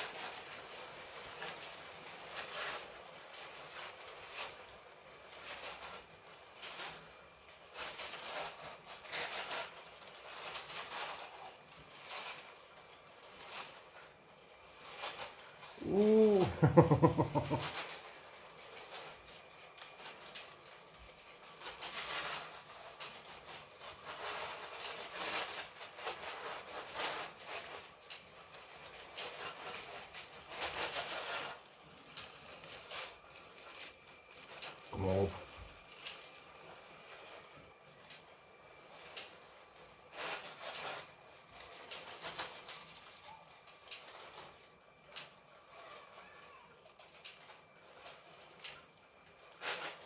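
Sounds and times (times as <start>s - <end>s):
faint motor whine: 0.0s - 50.0s
toy train wheels clicking on track: 0.0s - 50.0s.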